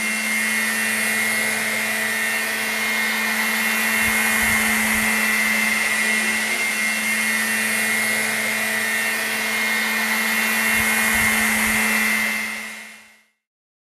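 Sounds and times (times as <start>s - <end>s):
rc helicopter rotor whine: 0.0s - 13.4s.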